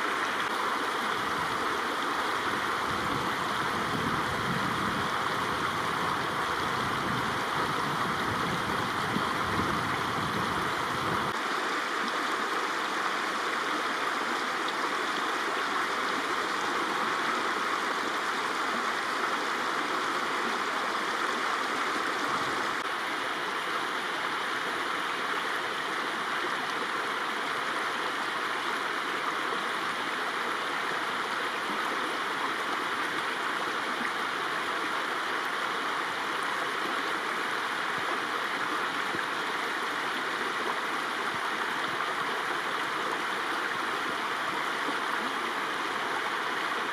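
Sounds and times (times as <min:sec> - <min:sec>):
stream rushing water: 0:00.0 - 0:46.9.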